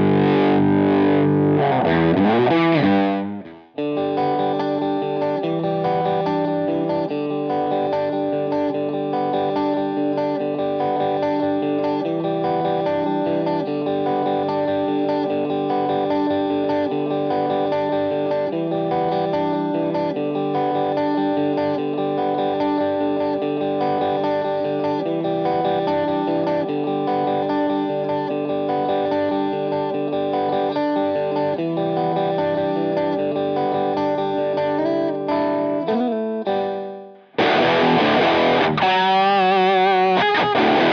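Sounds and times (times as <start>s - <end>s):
electric guitar riff: 0.0s - 40.9s.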